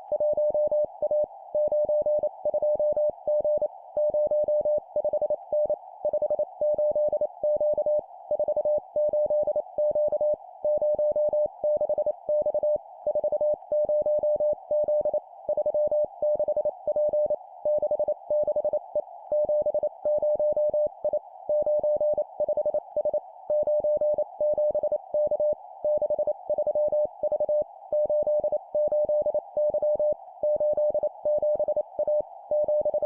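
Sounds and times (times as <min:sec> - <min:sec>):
morse code sidetone beeps: 0:00.2 - 0:33.0.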